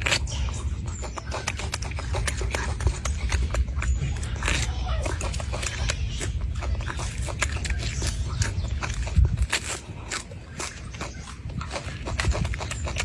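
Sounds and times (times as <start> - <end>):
monkey crunching fruit: 0.0 - 13.0.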